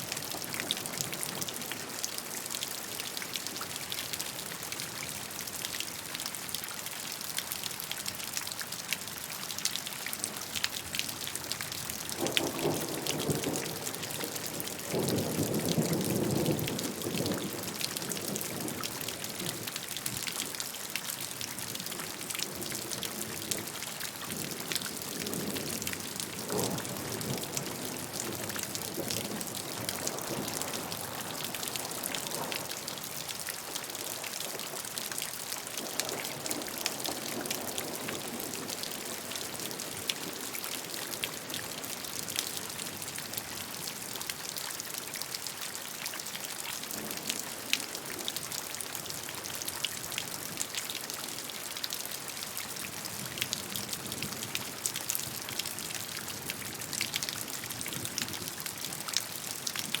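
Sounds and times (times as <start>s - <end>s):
raindrops pattering on hard surface: 0.0s - 60.0s.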